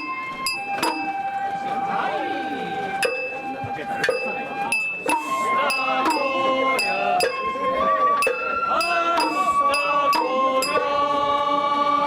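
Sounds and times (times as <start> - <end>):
high bamboo flute melody: 0.0 - 11.3.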